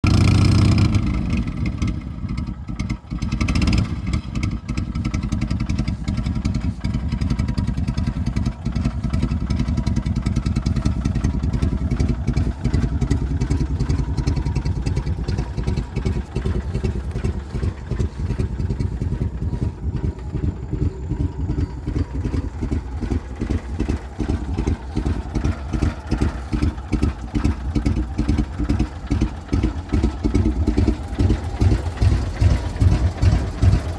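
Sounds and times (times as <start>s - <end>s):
truck engine idling: 0.0s - 33.9s.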